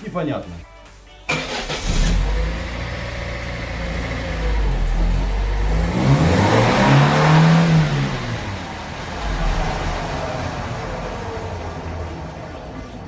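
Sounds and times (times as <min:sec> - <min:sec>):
car engine revving: 0:01.3 - 0:13.0.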